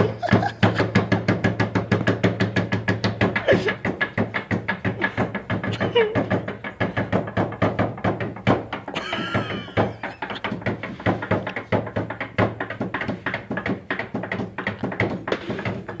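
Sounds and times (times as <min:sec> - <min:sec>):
hands drumming on a tabletop: 0:00.0 - 0:16.0.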